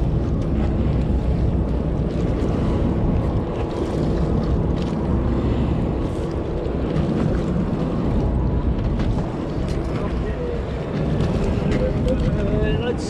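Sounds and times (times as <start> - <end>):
water washing around boat: 0.0 - 13.0
wind buffeting microphone: 0.0 - 13.0.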